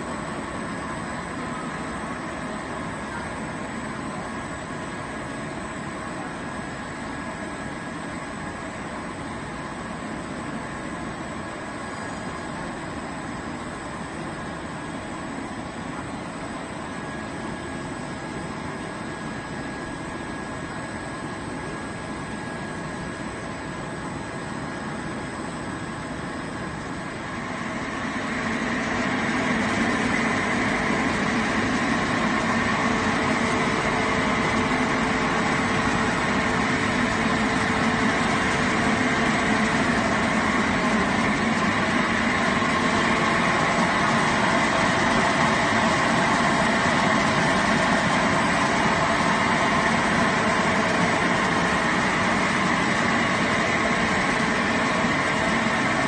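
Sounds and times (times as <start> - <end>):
machine hum and rush: 0.0 - 56.0.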